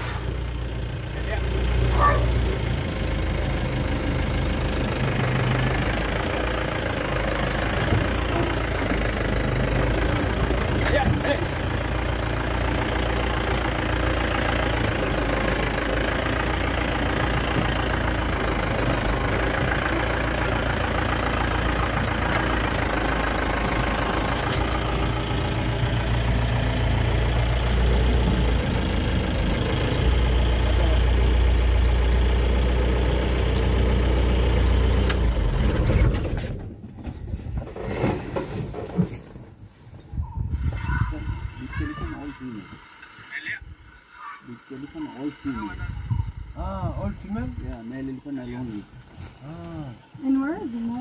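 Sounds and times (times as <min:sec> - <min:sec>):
vehicle engine idling: 0:00.0 - 0:37.6, 0:40.5 - 0:51.0.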